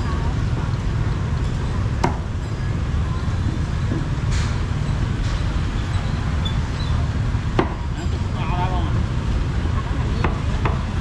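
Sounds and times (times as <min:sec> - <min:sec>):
low rumble of passing traffic: 0:00.0 - 0:11.0.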